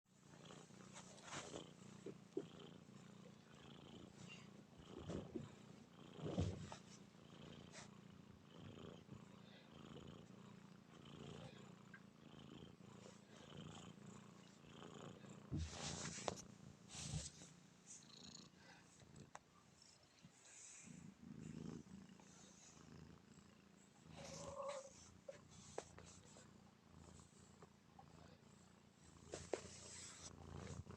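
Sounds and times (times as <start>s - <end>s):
cat snoring: 0.2s - 30.9s.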